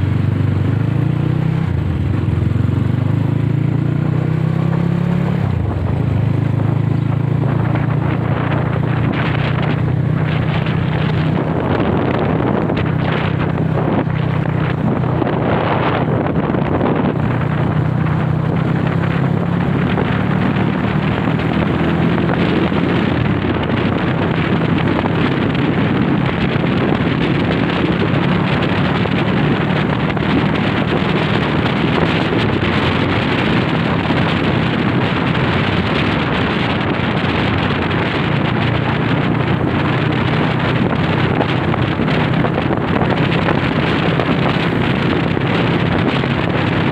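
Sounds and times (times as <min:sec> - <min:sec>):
motorcycle engine running: 0:00.0 - 0:46.9
wind buffeting microphone: 0:00.0 - 0:46.9.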